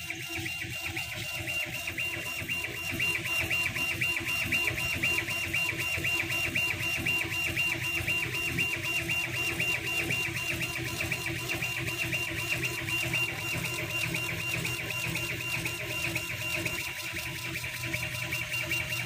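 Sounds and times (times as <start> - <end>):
laser engraver motors whining: 0.0 - 19.0.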